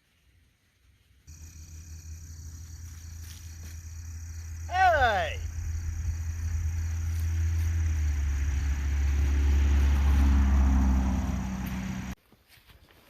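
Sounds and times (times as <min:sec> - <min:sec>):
vehicle engine rumble: 0:01.3 - 0:12.2.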